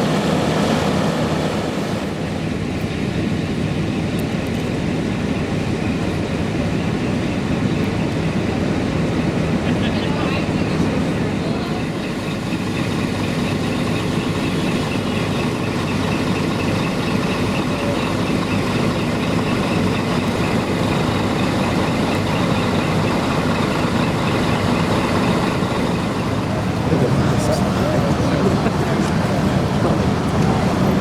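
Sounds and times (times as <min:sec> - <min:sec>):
tractor engines idling: 0:00.0 - 0:31.0.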